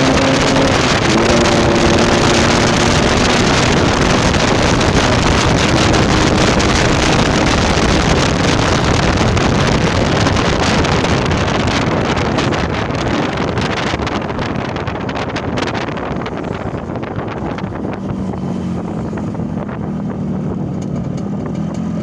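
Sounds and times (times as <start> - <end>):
raspy two-stroke motorcycle engine: 0.0 - 22.0.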